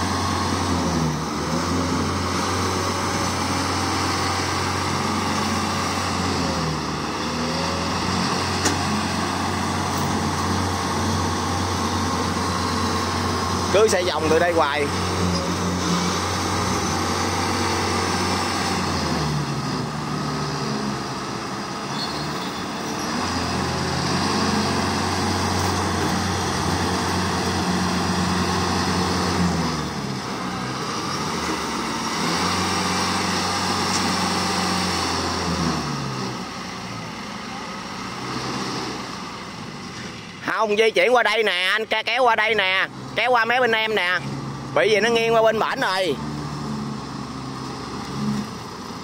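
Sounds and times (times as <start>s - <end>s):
heavy engines droning: 0.0s - 49.0s.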